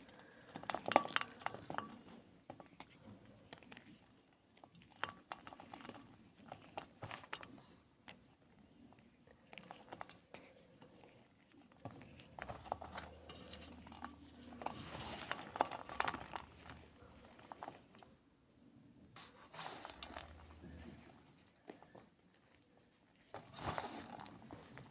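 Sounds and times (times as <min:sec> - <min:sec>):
chalk ball crunching: 0:00.0 - 0:18.2, 0:19.2 - 0:24.9.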